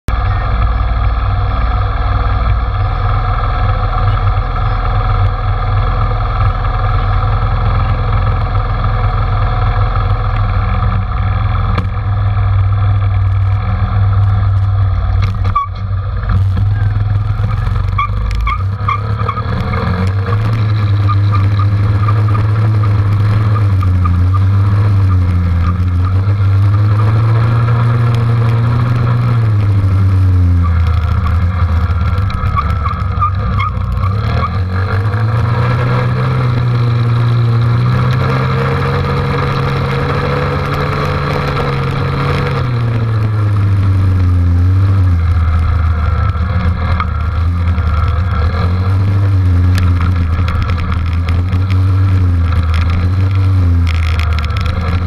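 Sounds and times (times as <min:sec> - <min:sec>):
dirt bike engine idling and revving: 0:00.0 - 0:55.0.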